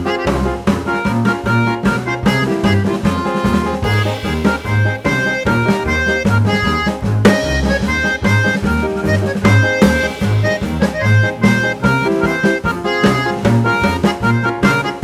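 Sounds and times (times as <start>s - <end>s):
drum beat: 0.0s - 15.0s
sustained melodic notes: 0.0s - 15.0s
walking bass line: 0.0s - 15.0s.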